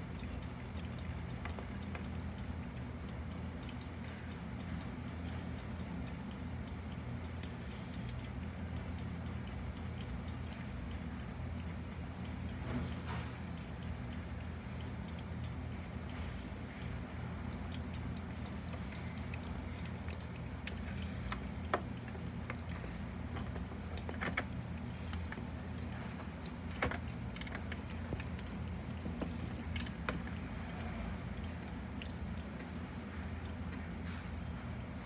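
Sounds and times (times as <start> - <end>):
crab chewing clicks and crackles: 0.0 - 35.0
steady low hum: 0.0 - 35.0.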